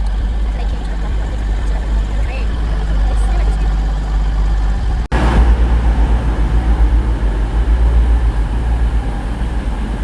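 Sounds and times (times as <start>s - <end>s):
train rumbling into station: 0.0s - 10.0s.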